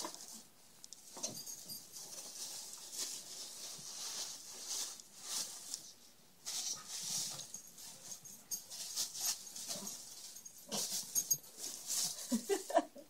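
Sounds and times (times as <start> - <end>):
tissue paper rustling: 1.5 - 12.9.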